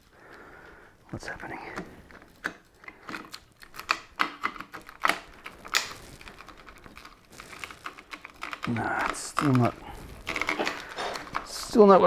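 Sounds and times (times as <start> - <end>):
plastic parts clicking and knocking: 0.0 - 12.0.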